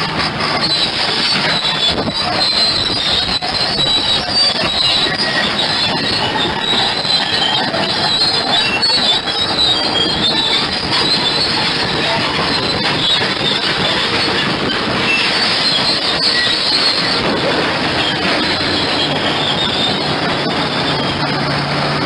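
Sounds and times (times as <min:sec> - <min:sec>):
bulldozer engine and track clatter: 0:00.0 - 0:22.0
steel tracks squealing: 0:00.0 - 0:22.0.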